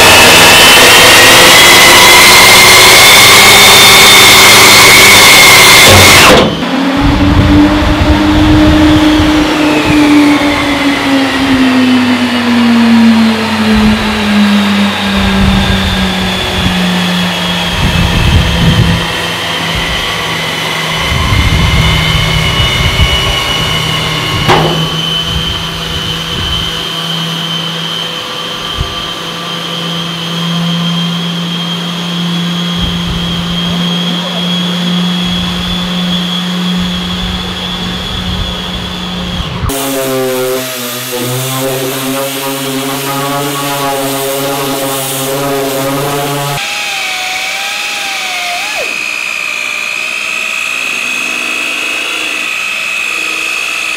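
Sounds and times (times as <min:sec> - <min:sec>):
electric motor whining: 0:00.0 - 0:53.9.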